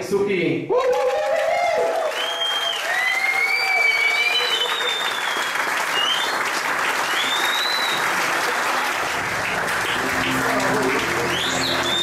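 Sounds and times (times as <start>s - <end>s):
crowd applauding: 0.8s - 12.0s.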